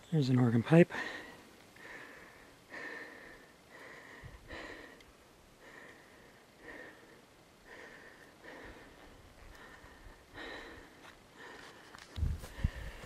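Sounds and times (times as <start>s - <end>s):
person breathing hard: 0.9s - 13.0s.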